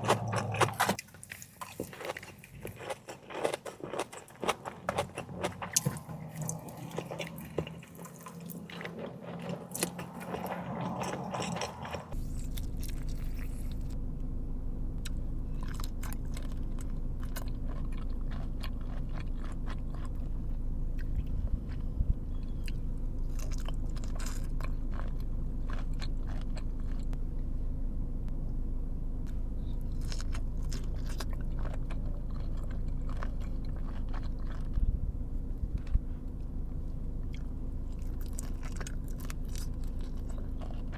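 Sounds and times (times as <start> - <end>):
person chewing food: 0.0 - 14.0, 15.0 - 27.2, 29.2 - 36.6, 37.2 - 40.9
steady low hum: 0.0 - 40.9.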